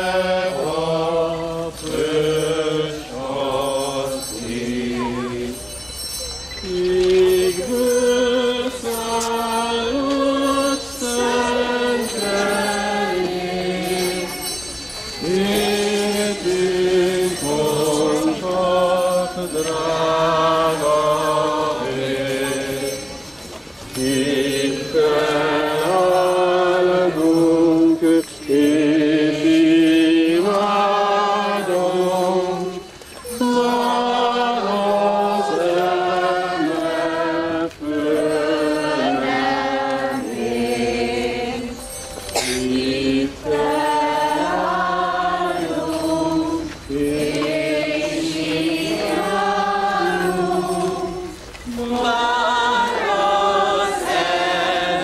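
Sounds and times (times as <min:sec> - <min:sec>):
crowd singing a hymn: 0:00.0 - 0:55.0.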